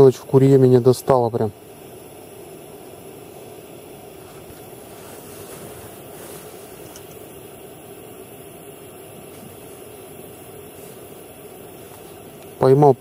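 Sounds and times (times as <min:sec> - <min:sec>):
gas burner roaring and hissing: 0:00.0 - 0:13.0.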